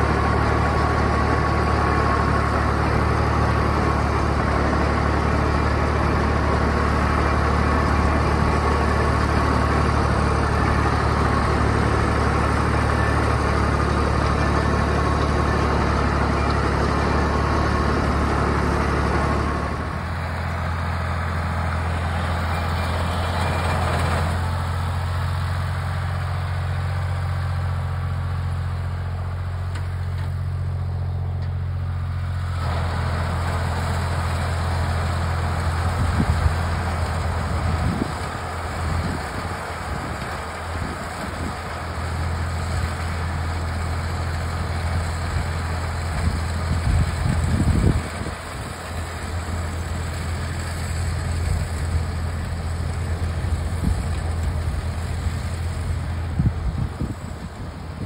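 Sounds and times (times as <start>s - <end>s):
round baler working: 0.0s - 58.0s
tractor engine running: 0.0s - 58.0s.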